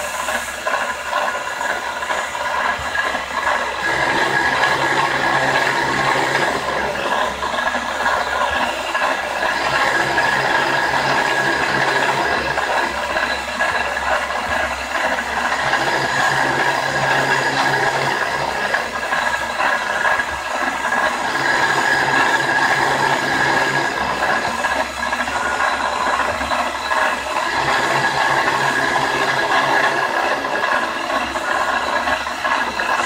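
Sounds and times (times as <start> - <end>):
milling machine whining: 0.0 - 33.0
rough rattly metal cutting: 0.0 - 33.0.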